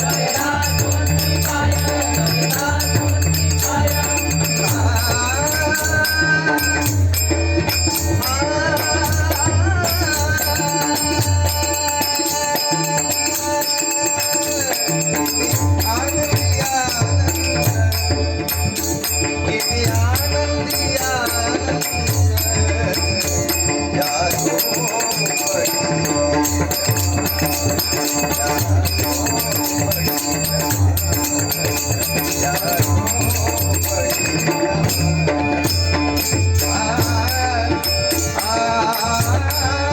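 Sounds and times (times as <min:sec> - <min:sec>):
devotional melody: 0:00.0 - 0:39.9
small cymbals jingling: 0:00.0 - 0:39.9
steady drum beat: 0:00.0 - 0:39.9.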